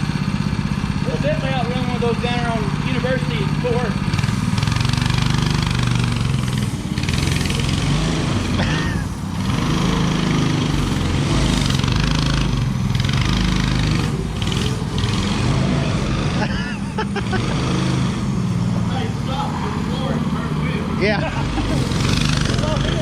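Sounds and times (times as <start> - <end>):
go-kart engine revving: 0.0 - 23.0.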